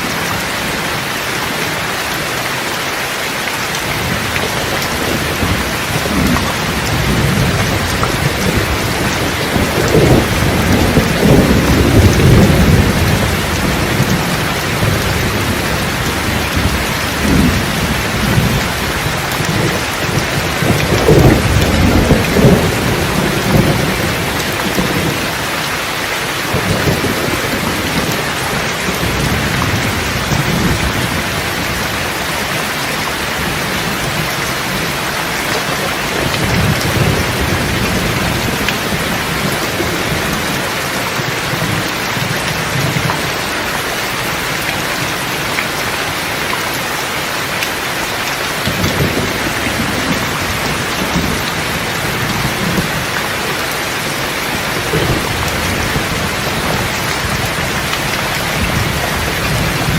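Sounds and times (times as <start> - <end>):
steady rain: 0.0 - 59.9
rolling thunder: 3.9 - 25.6, 26.4 - 43.4, 48.6 - 59.9.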